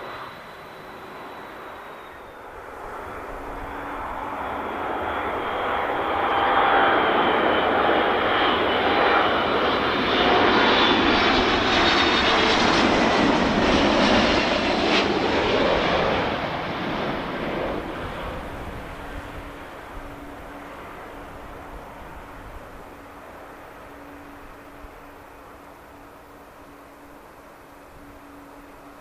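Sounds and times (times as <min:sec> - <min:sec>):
airliner engines passing: 0:00.0 - 0:29.0
faint whining tones: 0:00.0 - 0:29.0.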